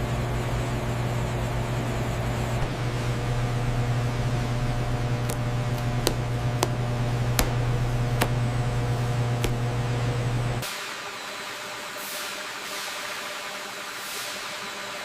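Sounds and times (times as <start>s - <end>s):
factory machine hum: 0.0s - 15.0s.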